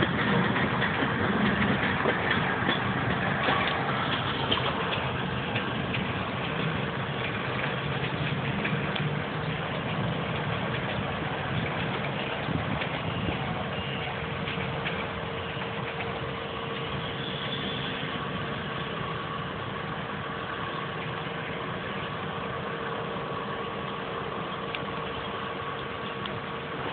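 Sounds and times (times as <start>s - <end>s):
freight train rumbling past: 0.0s - 26.9s.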